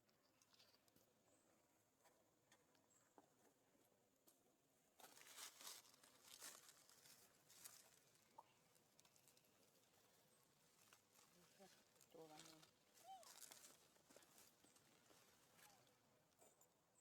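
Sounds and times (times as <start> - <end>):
faint rustling and crinkling: 0.0 - 17.0.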